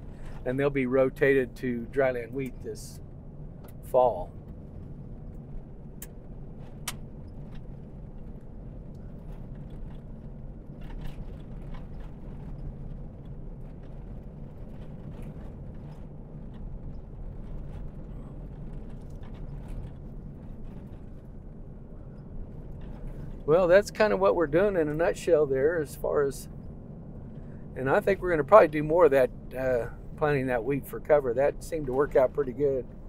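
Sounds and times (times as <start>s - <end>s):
truck engine and tyre noise: 0.0s - 33.0s.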